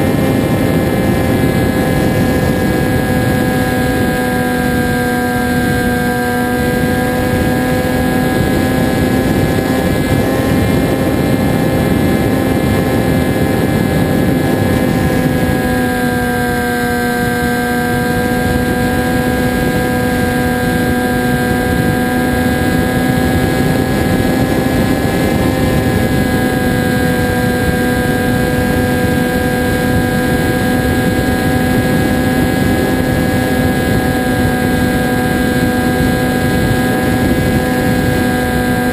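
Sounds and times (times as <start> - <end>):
model plane motor droning: 0.0 - 38.9
rushing wind: 0.0 - 38.9.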